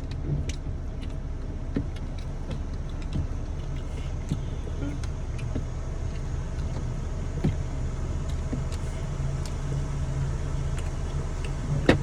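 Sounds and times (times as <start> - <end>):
car engine hum inside cabin: 0.0 - 12.0.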